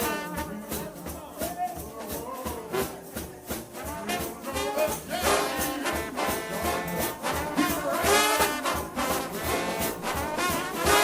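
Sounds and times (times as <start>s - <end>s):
brass horns: 0.0s - 1.1s, 2.6s - 11.0s
gospel band music: 0.0s - 11.0s
steady drum beat: 0.0s - 11.0s.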